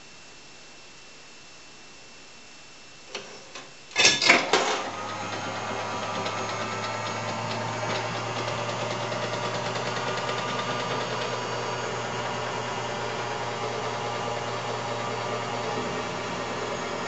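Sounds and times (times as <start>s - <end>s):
arcade machine motor hum: 3.1s - 17.0s.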